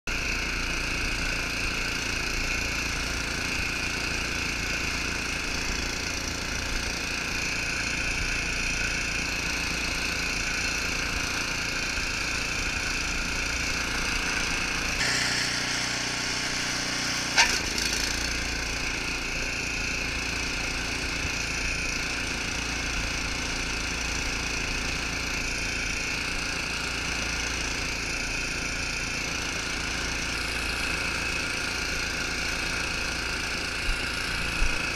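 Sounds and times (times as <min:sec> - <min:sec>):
snowblower engine running: 0:00.1 - 0:34.9.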